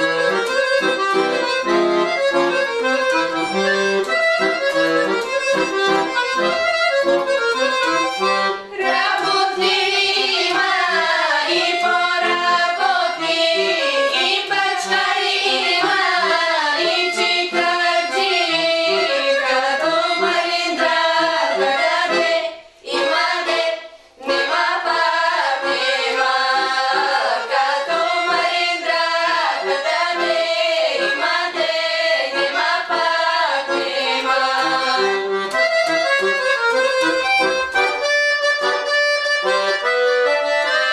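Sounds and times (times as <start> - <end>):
accordion folk music: 0.0 - 40.9.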